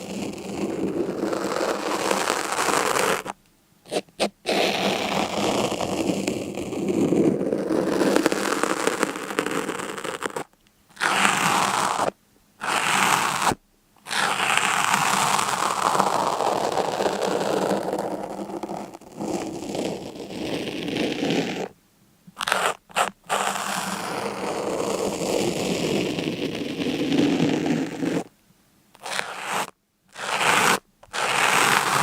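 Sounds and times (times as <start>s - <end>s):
scraping crackling noise: 0.0s - 21.7s, 22.4s - 28.3s, 29.0s - 32.0s.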